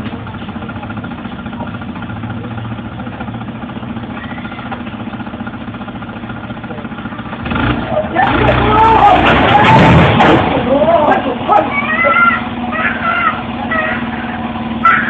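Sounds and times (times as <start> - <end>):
engine-like drone: 0.0 - 15.0.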